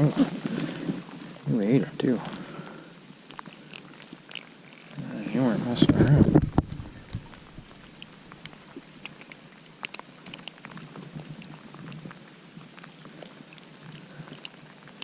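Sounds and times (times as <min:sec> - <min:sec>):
faint steady hiss: 0:00.0 - 0:15.0
rain drops pattering: 0:00.0 - 0:15.0.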